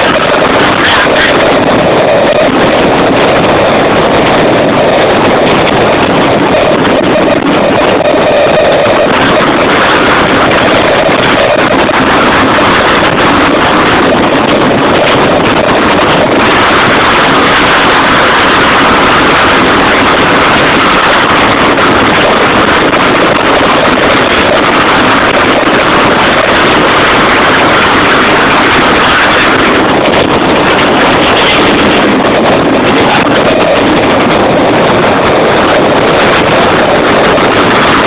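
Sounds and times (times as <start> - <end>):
vehicle running noise: 0.0 - 38.0
wind buffeting microphone: 0.0 - 38.0.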